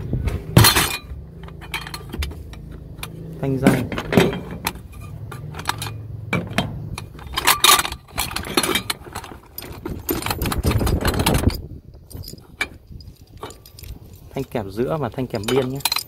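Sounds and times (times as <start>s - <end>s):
metal rails clattering: 0.0s - 16.0s.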